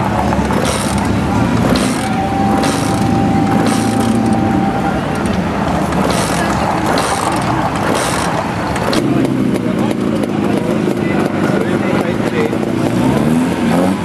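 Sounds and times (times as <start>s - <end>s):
car engines running: 0.0s - 14.0s
crowd chatter: 0.0s - 14.0s.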